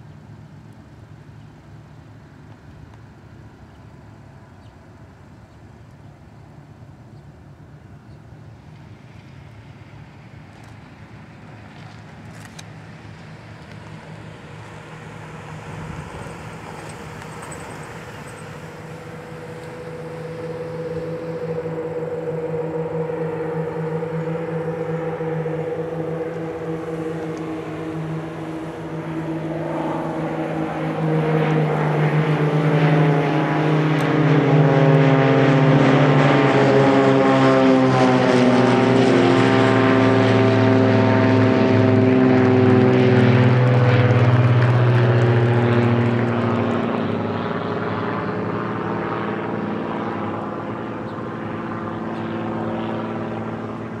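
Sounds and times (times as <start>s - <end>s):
propeller planes flying over: 0.0s - 54.0s.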